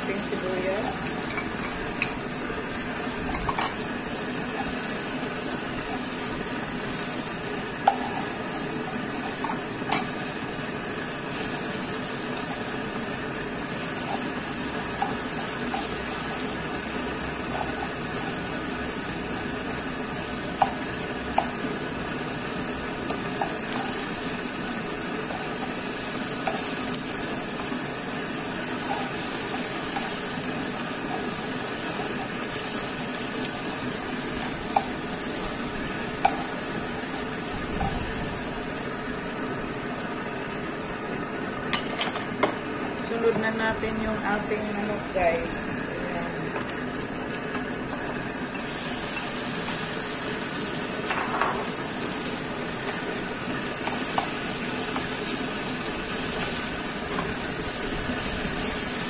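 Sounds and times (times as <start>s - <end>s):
onion sizzling in hot oil: 0.0s - 59.0s.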